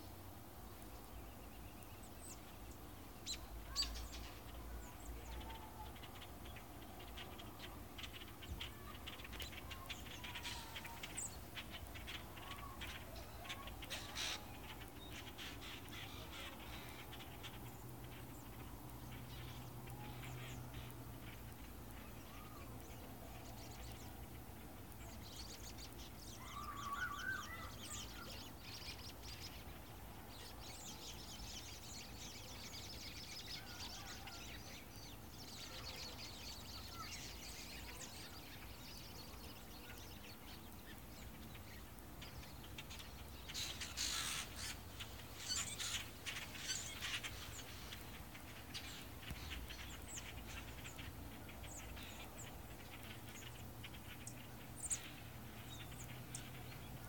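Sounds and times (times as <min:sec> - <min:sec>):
flock of birds calling: 0:01.8 - 0:57.0.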